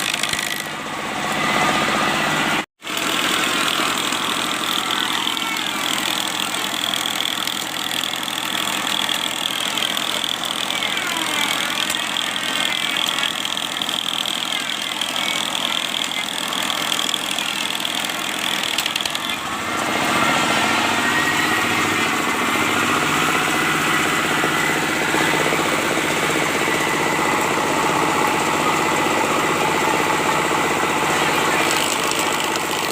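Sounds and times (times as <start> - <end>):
electric grinder grinding steel: 0.0 - 32.9.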